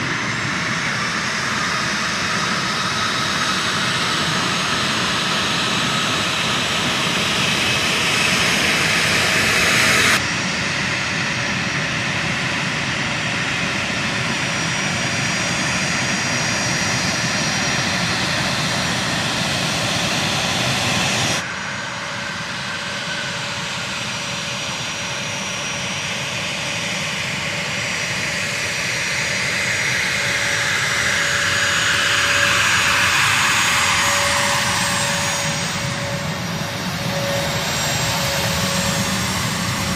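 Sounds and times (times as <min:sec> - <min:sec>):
jet engines whining and roaring: 0:00.0 - 0:39.9.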